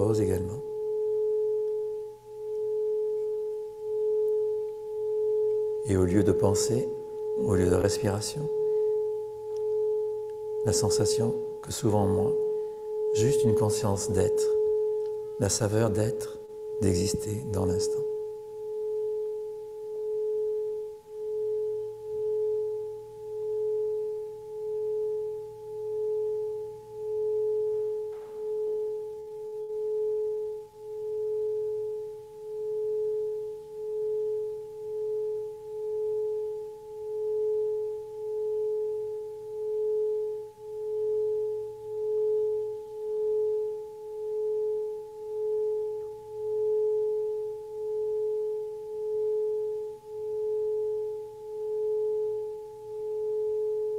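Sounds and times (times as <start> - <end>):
singing bowl ringing: 0.0 - 53.9.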